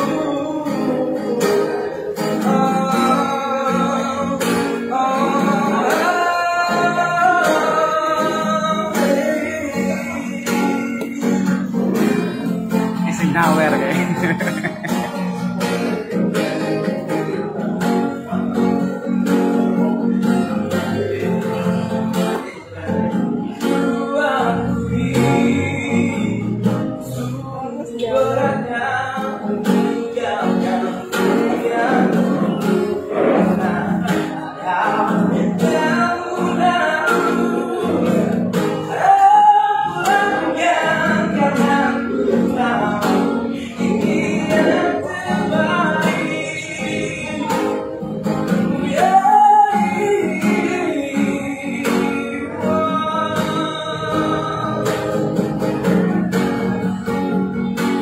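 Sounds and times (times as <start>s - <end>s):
acoustic guitar strumming: 0.0s - 58.0s
man singing slow song: 0.0s - 58.0s.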